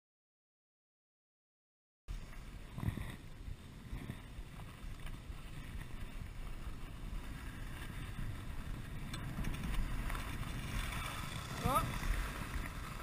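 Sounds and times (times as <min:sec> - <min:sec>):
skis scraping on frozen snow: 0:02.1 - 0:13.0
wind rumbling on microphone: 0:02.1 - 0:13.0.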